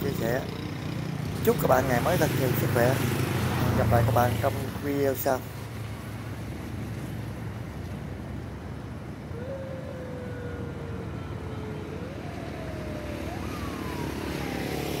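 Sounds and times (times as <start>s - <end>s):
low engine rumble: 0.0s - 14.8s.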